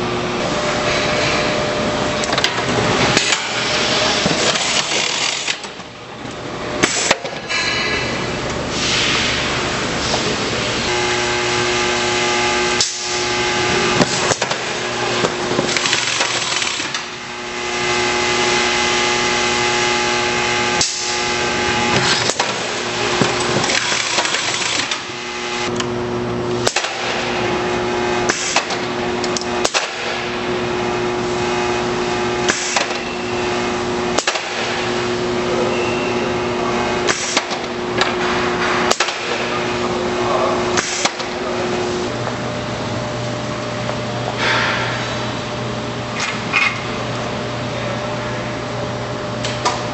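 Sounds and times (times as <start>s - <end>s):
machine motor hum with hiss: 0.0s - 6.0s, 6.6s - 49.9s.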